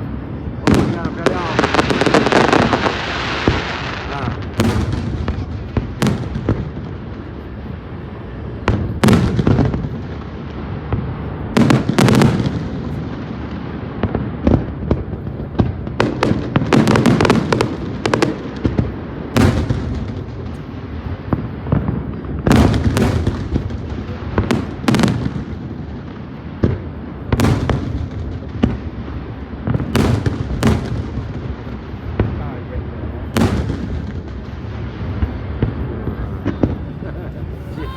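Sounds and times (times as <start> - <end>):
fireworks bursting: 0.0 - 37.9.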